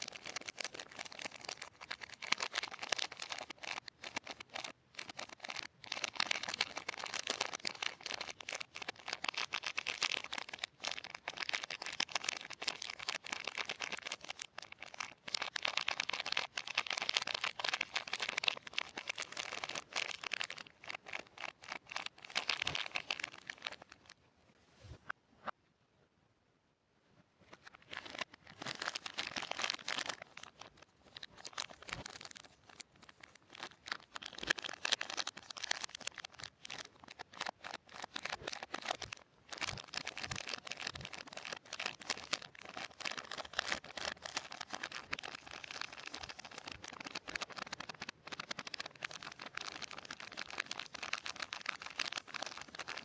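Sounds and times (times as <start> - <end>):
wrappers crinkling and tearing: 0.0 - 24.1, 27.6 - 53.0.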